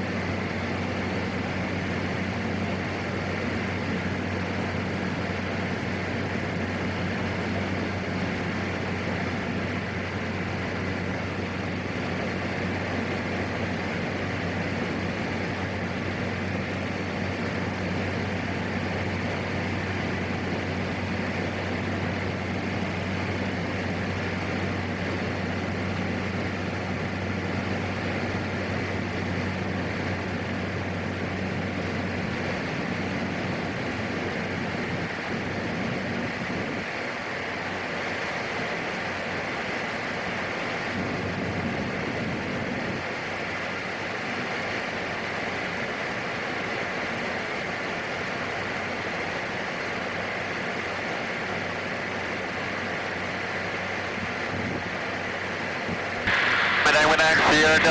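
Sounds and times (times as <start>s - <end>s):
turboprop engine drone in flight: 0.0s - 57.9s.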